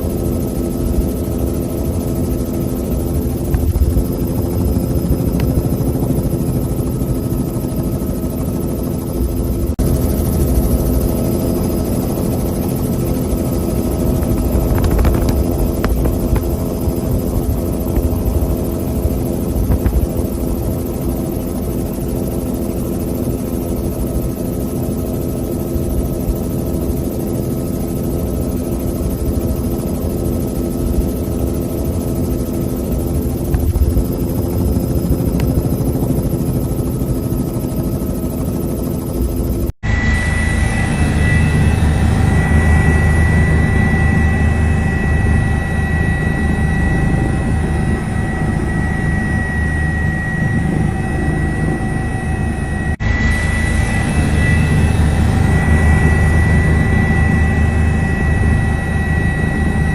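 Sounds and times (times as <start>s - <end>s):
helicopter rumble: 0.0s - 59.9s.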